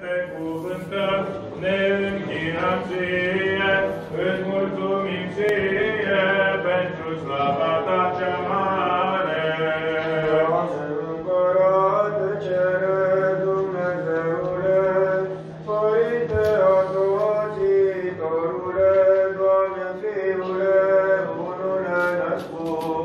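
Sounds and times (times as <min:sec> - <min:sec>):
male voices chanting: 0:00.0 - 0:23.0.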